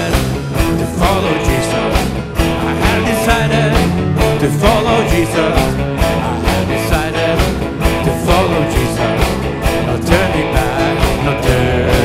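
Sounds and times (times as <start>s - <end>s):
drums steady beat: 0.0s - 12.0s
live rock band playing: 0.0s - 12.0s.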